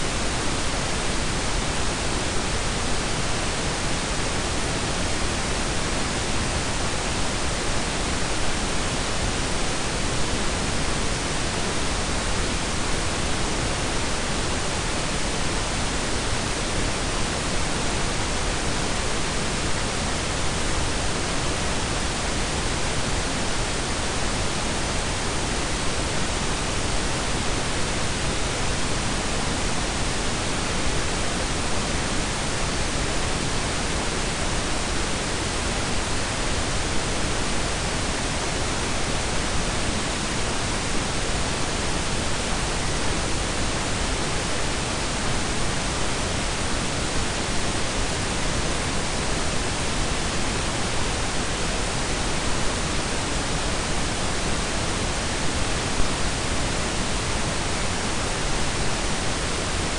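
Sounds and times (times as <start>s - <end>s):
pink and brown noise: 0.0s - 59.9s.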